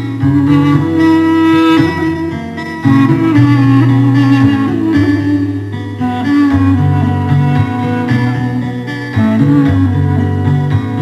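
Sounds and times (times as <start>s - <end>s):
bass line: 0.0s - 11.0s
dance music with plucked strings: 0.0s - 11.0s.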